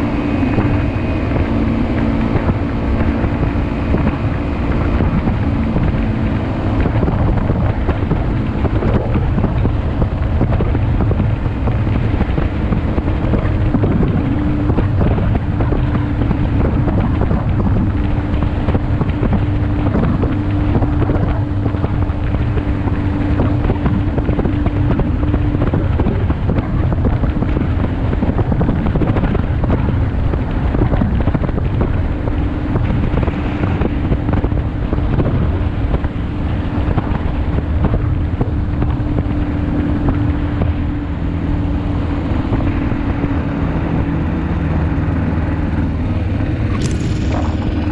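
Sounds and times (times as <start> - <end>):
aircraft engine running: 0.0 - 47.9
wind rush on microphone: 0.0 - 47.9.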